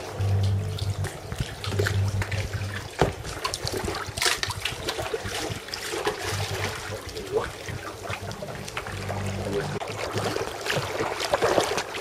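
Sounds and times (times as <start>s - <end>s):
paddle blades dipping: 0.0s - 12.0s
water splashing around kayaks: 0.0s - 12.0s.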